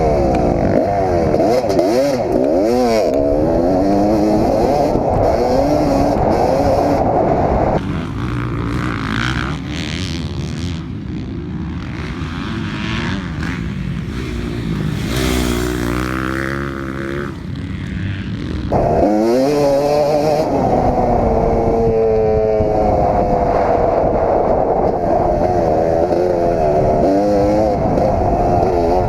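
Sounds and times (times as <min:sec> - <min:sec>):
motocross engine revving: 0:00.0 - 0:29.0.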